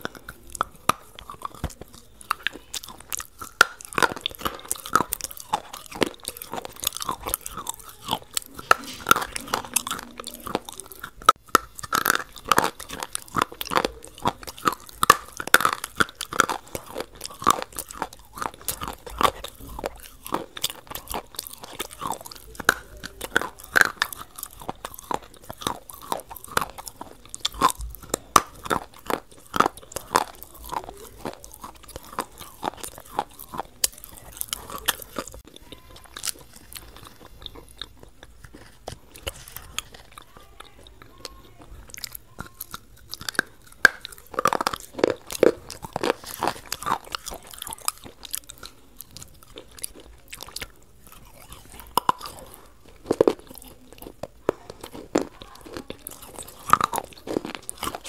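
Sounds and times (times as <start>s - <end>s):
crunching of crunchy food: 0.0s - 58.0s
wet chewing: 0.0s - 58.0s.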